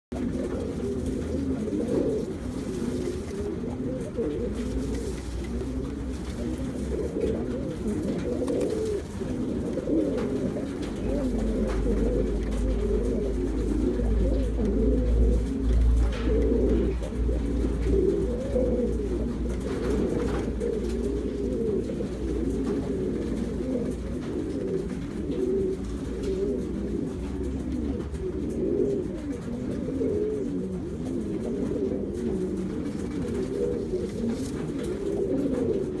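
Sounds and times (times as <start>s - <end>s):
pigeons cooing: 0.1s - 36.0s.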